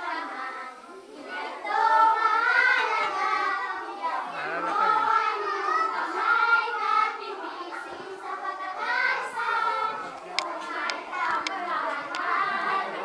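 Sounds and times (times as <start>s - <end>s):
children singing in chorus: 0.0s - 13.0s.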